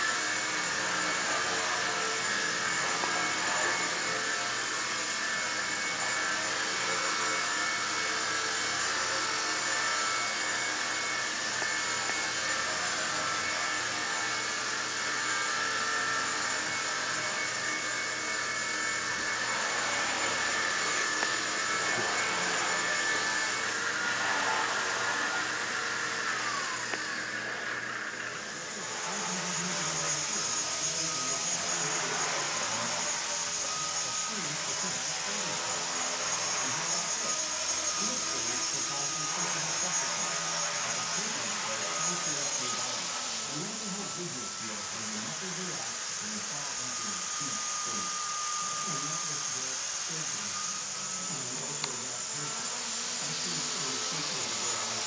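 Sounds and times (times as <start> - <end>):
electric motor whine: 0.0 - 55.0
rotor blades whirring: 0.0 - 55.0.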